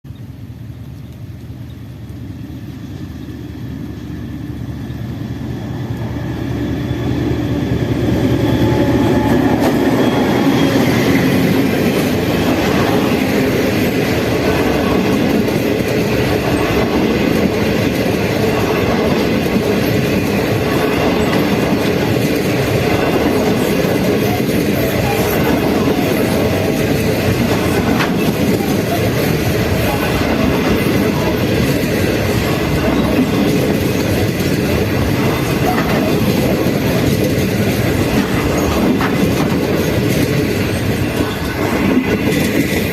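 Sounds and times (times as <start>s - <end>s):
diesel locomotive rumble: 0.1s - 42.9s
train wheels on rails: 0.2s - 42.9s.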